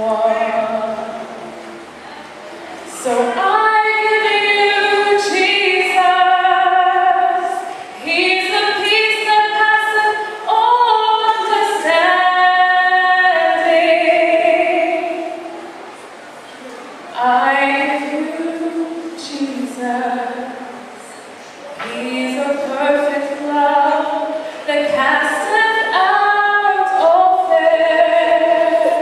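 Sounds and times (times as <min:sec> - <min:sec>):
women singing gospel song: 0:00.0 - 0:01.4, 0:03.0 - 0:15.5, 0:17.2 - 0:20.8, 0:21.8 - 0:29.0.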